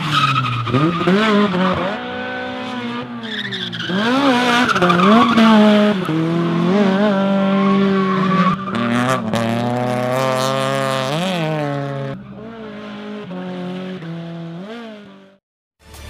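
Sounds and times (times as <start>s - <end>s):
car engine at high revs: 0.0s - 3.2s, 3.8s - 15.4s.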